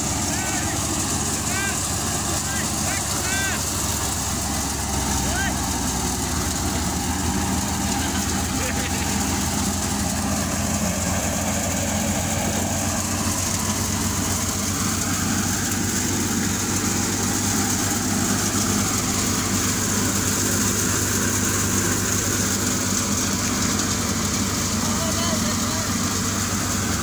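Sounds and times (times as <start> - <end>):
thresher hissing: 0.0 - 27.0
tractor diesel engine running: 0.0 - 27.0.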